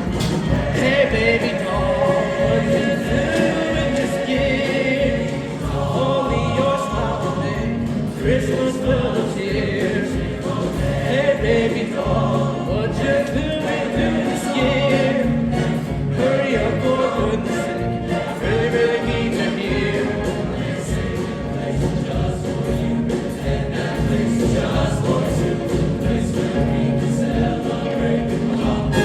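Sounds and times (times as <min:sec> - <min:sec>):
choir singing: 0:00.0 - 0:29.0
instrumental accompaniment: 0:00.0 - 0:29.0.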